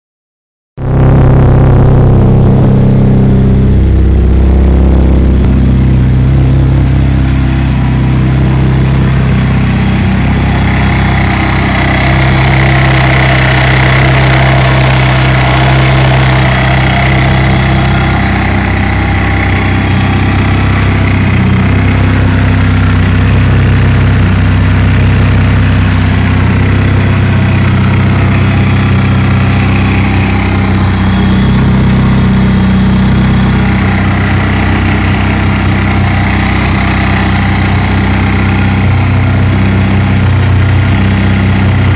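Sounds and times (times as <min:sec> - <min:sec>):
supercharger whine: 0:00.8 - 0:41.9
car engine idling: 0:02.1 - 0:41.9.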